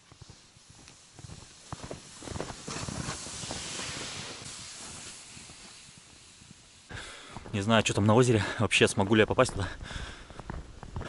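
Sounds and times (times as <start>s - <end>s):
boots crunching in snow: 0.0s - 7.6s, 9.5s - 11.0s
sled sliding over snow: 0.0s - 11.0s.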